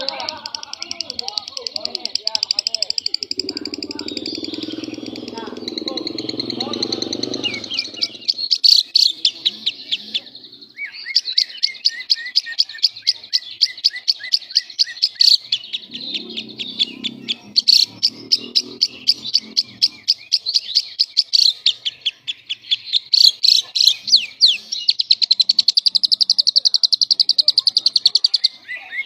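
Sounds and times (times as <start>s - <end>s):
lovebird chattering chirps: 0.0s - 29.0s.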